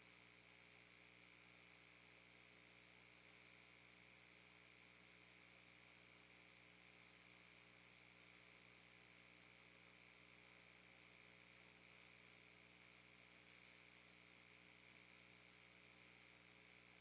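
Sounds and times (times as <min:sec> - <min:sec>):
faint electrical hum and hiss: 0:00.0 - 0:17.0.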